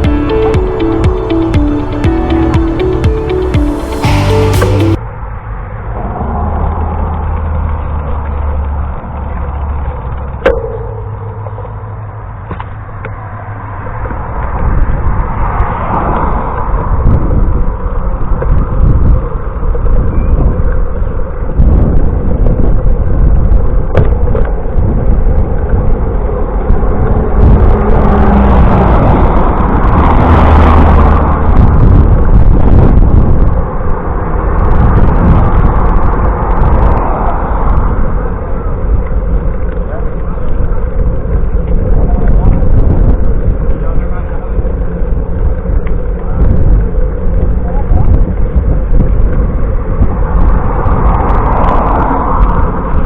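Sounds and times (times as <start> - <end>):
wind and road rumble: 5.0 - 53.0.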